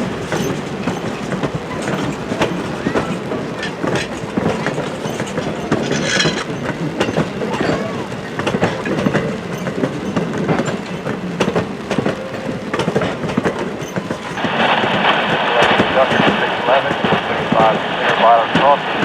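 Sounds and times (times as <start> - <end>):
train rumble: 0.0 - 19.0
train wheels clicking over rail joints: 0.0 - 19.0.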